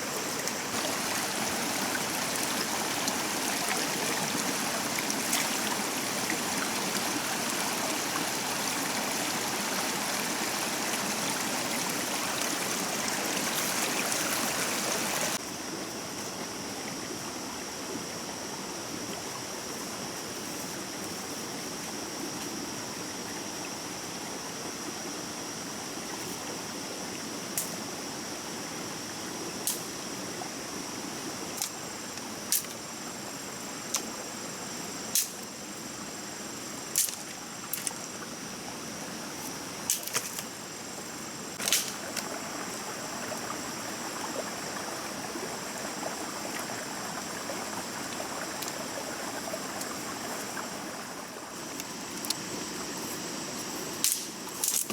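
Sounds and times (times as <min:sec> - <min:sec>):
stream water flowing: 0:00.0 - 0:54.9.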